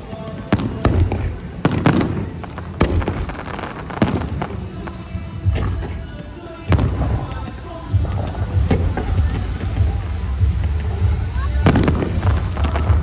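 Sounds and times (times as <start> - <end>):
fireworks bangs: 0.0 - 13.0
music: 0.0 - 13.0.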